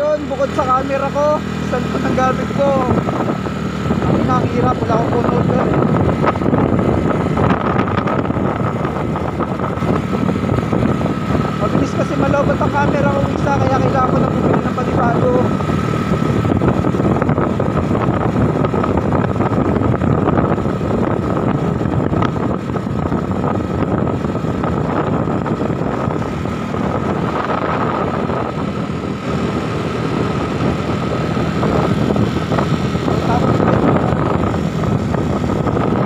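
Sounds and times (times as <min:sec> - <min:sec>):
motorcycle engine and road noise: 0:00.0 - 0:36.0.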